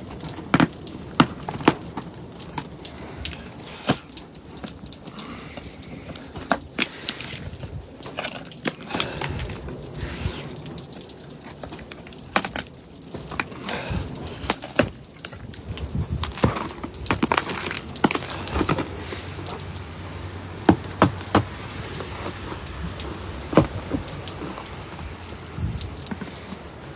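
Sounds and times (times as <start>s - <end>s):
ice cracking and knocking: 0.0s - 26.9s.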